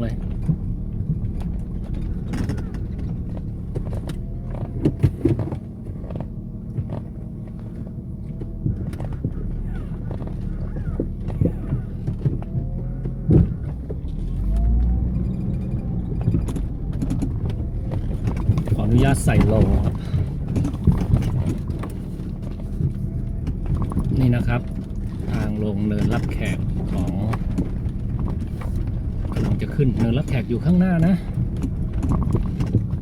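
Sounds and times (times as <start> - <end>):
suspension knocks and clunks: 0.0 - 33.0
vehicle engine rumble: 0.0 - 33.0.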